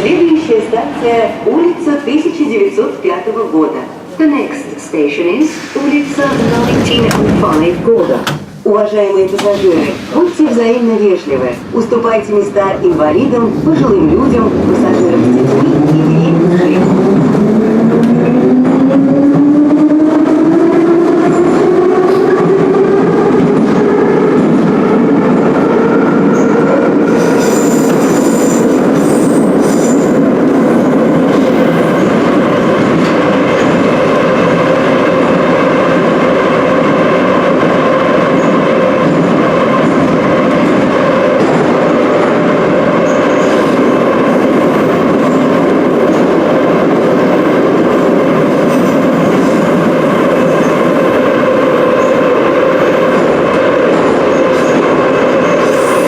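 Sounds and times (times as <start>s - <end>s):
subway train wheels rumbling on rails: 0.0s - 56.0s.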